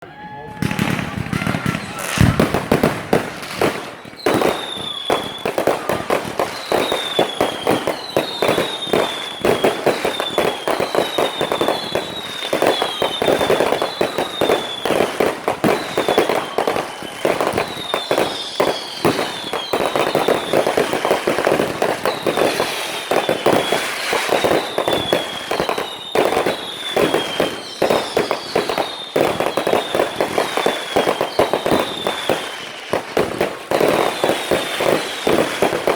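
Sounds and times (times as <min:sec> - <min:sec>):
fireworks whistles falling: 0:00.0 - 0:35.9
fireworks crackling: 0:00.2 - 0:35.9.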